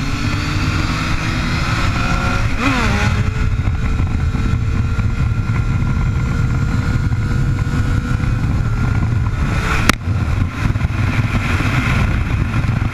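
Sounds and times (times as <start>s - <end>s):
motorcycle engine running: 0.0s - 12.9s
wind noise: 0.0s - 12.9s.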